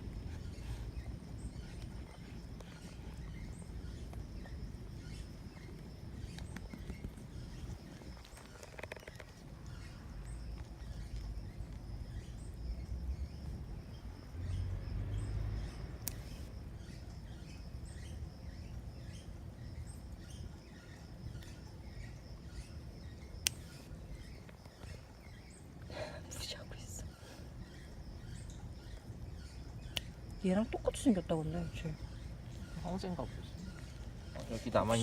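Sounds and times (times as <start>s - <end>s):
faint bird chirps: 0.0s - 35.0s.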